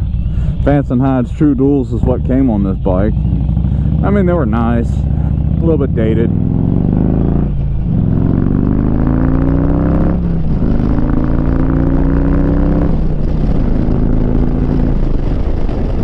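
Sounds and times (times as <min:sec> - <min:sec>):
motorcycle engine accelerating: 0:00.0 - 0:16.0
wind noise on microphone: 0:00.0 - 0:16.0.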